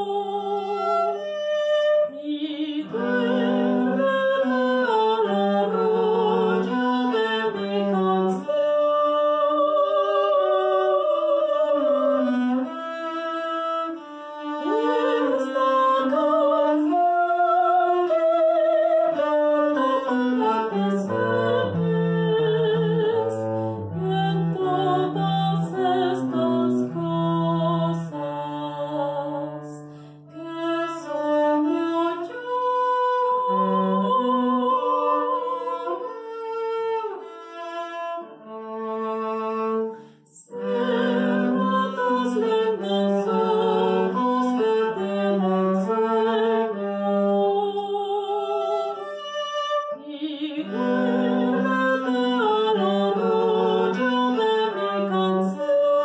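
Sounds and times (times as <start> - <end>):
bowed cello melody: 0.0 - 56.0.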